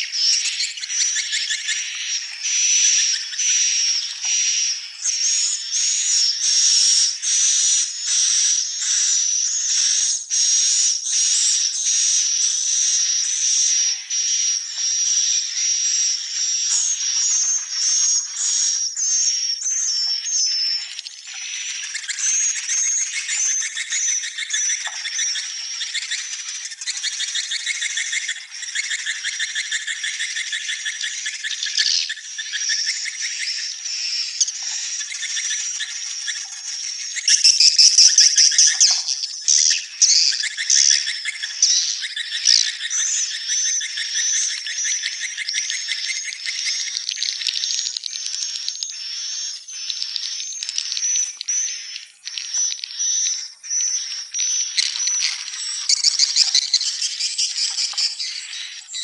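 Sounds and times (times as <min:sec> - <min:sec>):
swiftlet buzzy twittering calls: 0:00.0 - 0:59.0.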